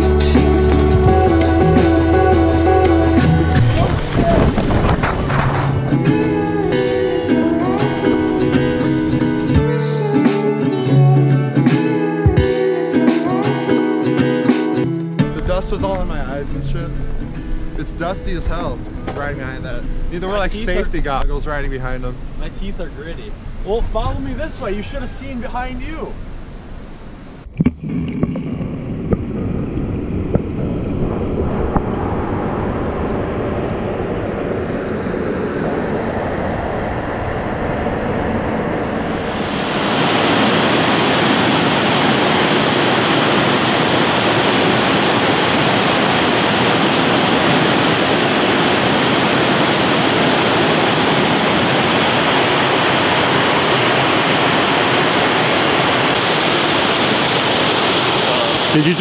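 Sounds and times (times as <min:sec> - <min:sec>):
steady rushing noise: 0:00.0 - 0:09.6, 0:15.4 - 0:59.0.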